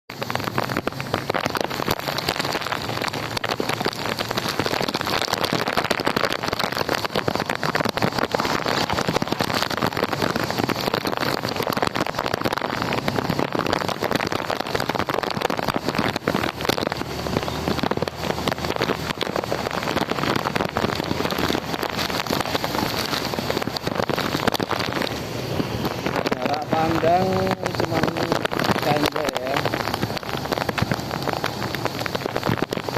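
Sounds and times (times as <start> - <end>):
heavy rain: 0.1 - 32.9
strong wind: 0.2 - 32.9.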